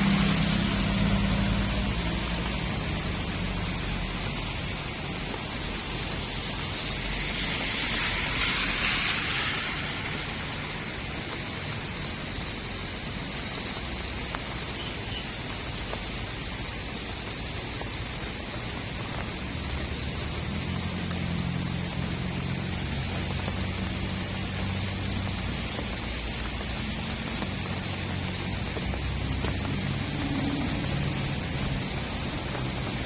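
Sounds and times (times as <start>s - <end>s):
rain falling on a street: 0.0s - 33.0s.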